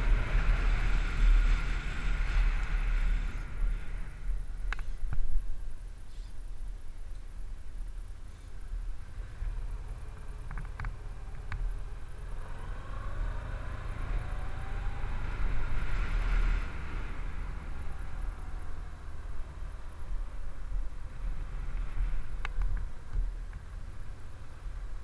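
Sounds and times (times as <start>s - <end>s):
wind rumble on microphone: 0.0s - 25.0s.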